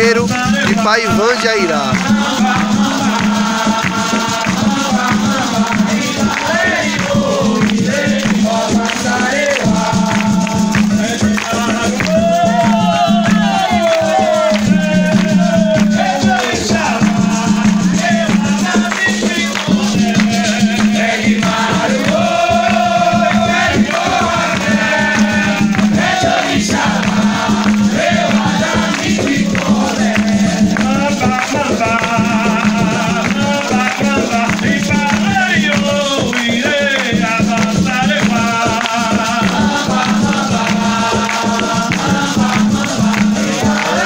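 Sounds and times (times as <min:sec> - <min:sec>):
percussion: 0:00.0 - 0:44.0
shaken rattles: 0:00.0 - 0:44.0
voices singing a chant: 0:00.0 - 0:44.0.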